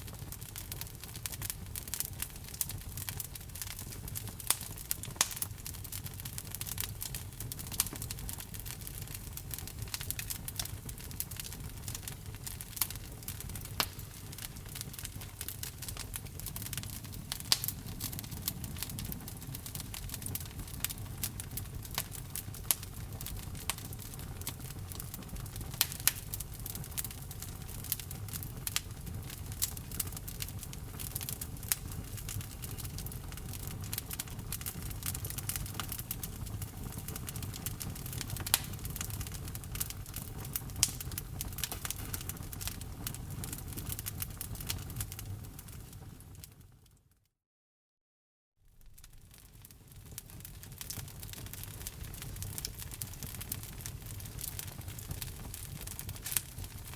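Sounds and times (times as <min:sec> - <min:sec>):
wood fire crackling: 0:00.0 - 0:47.0, 0:48.8 - 0:56.9.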